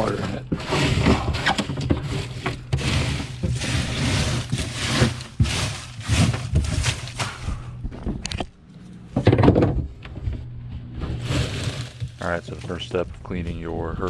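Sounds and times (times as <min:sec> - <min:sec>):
debris rustling and scraping: 0:00.0 - 0:14.0.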